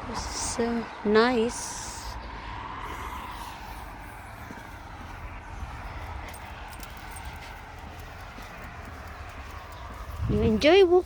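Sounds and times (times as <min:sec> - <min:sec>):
passing vehicle: 0:00.0 - 0:11.0
wind buffeting microphone: 0:00.0 - 0:11.0.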